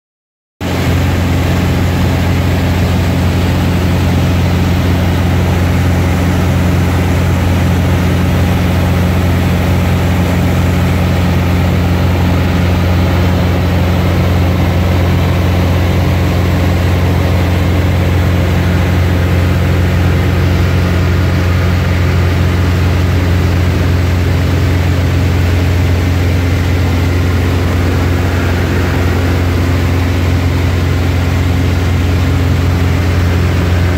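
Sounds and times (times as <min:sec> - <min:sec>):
propeller airplane engine droning: 0:00.6 - 0:33.9.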